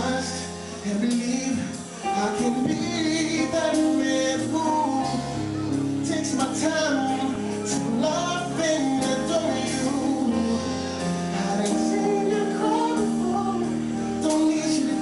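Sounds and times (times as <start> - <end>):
band playing held chords: 0.0 - 15.0
man singing: 0.0 - 15.0.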